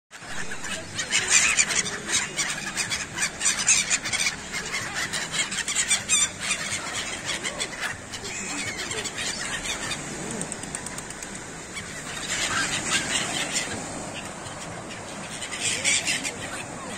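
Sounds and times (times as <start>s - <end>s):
gulls squealing: 0.1s - 16.9s.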